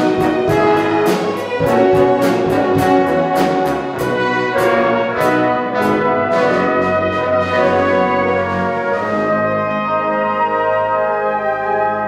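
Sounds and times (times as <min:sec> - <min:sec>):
brass: 0:00.0 - 0:12.0
orchestra playing: 0:00.0 - 0:12.0.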